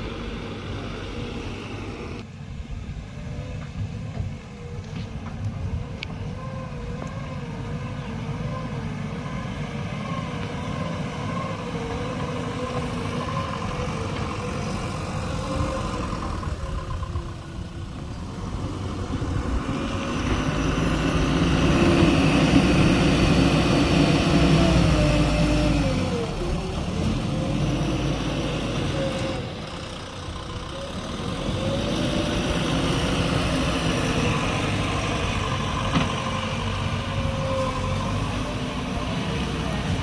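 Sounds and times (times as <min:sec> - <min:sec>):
heavy vehicle engine running: 0:00.0 - 0:40.0.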